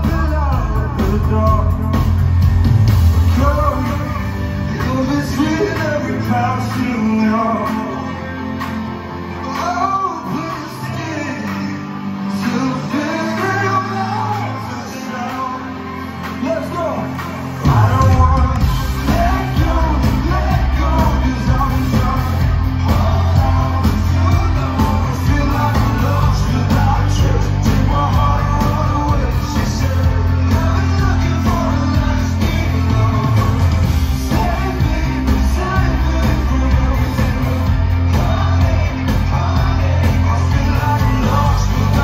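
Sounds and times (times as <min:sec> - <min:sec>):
electric guitars: 0:00.0 - 0:42.0
live band playing pop-rock: 0:00.0 - 0:42.0
person singing: 0:03.2 - 0:42.0.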